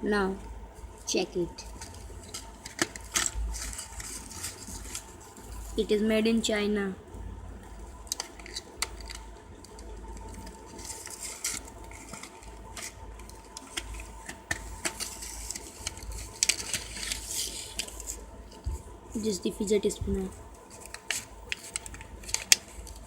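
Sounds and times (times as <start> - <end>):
fidget spinner clicks and clatters: 1.0 - 6.6, 7.6 - 23.0.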